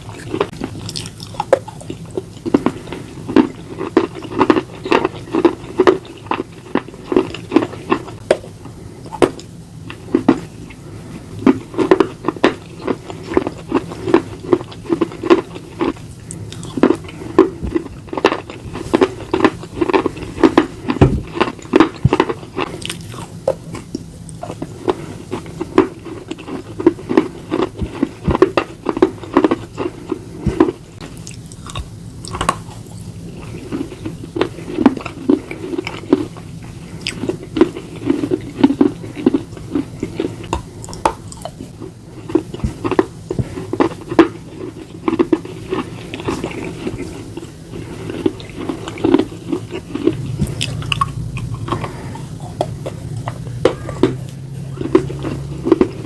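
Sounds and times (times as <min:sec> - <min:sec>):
crunchy biting and chewing: 0:00.0 - 0:56.0.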